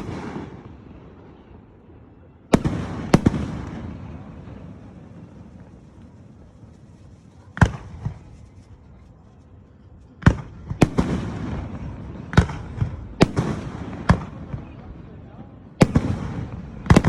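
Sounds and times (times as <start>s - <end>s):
fireworks bangs: 0.0s - 1.6s, 2.5s - 8.8s, 10.2s - 17.0s
fireworks crackling: 2.5s - 17.0s.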